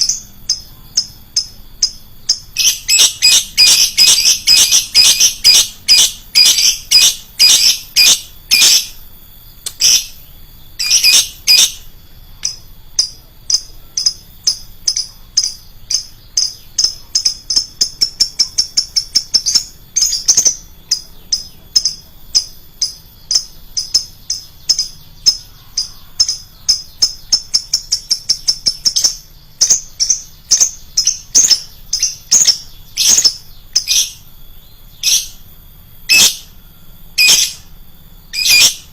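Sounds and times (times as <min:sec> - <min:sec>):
lovebird chirping: 0:00.0 - 0:38.9.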